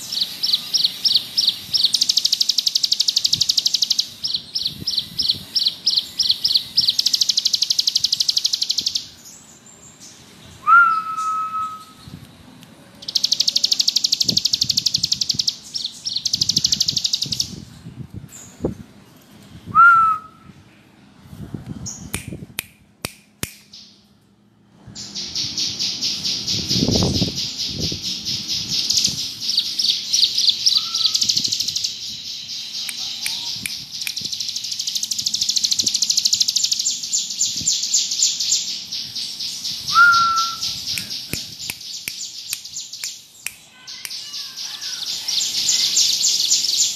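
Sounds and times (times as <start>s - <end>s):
bird singing buzzing trill: 0.0s - 12.2s, 13.0s - 17.6s, 25.0s - 46.9s.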